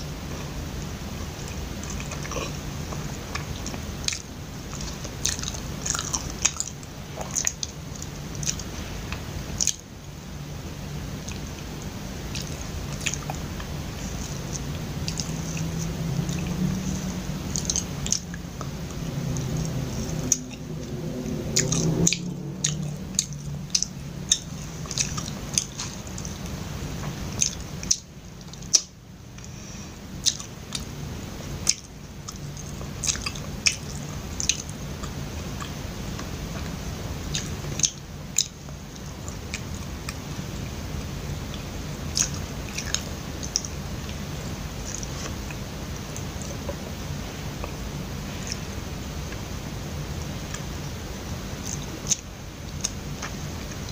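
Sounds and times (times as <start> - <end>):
close chewing sticky food: 1.3 - 9.9, 11.2 - 53.9.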